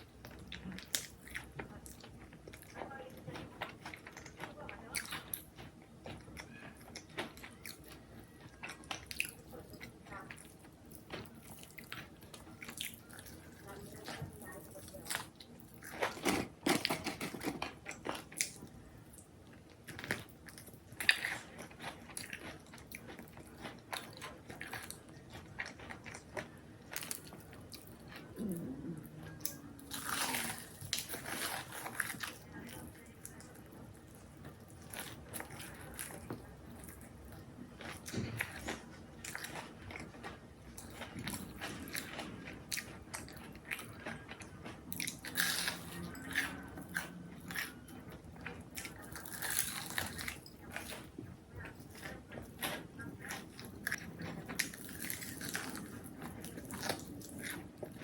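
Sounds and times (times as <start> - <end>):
chewing crunchy food: 0.0 - 58.0.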